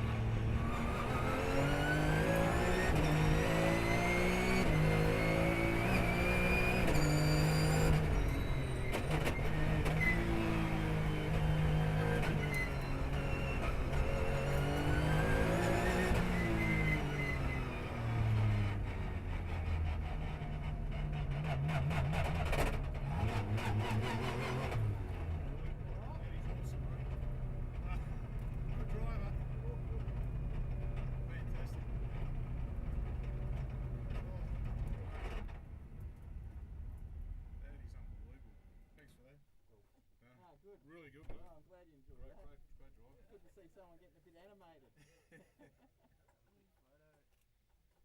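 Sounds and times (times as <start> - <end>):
race car engine accelerating: 0.0 - 38.4.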